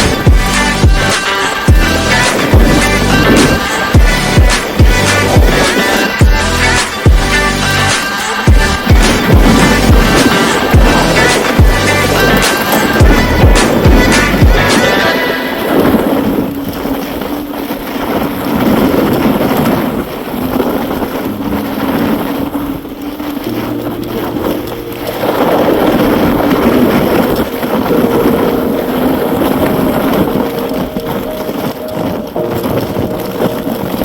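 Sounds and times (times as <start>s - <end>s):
electric bike road noise: 0.0s - 34.0s
wind on microphone: 0.0s - 34.0s.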